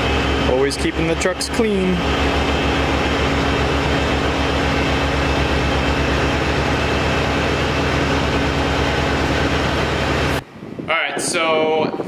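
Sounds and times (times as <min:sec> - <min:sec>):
heavy engine idling: 0:00.0 - 0:10.4.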